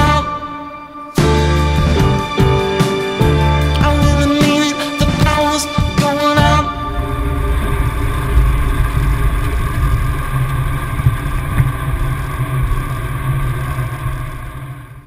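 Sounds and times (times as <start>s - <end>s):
rushing noise: 0.0s - 15.0s
steady low rumble: 1.2s - 15.0s.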